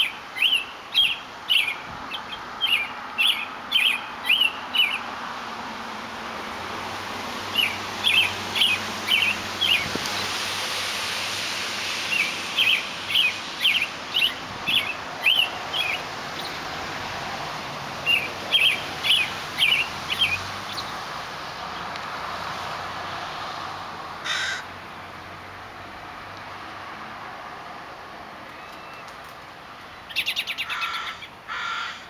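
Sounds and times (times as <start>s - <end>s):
steady outdoor hiss: 0.0s - 32.0s.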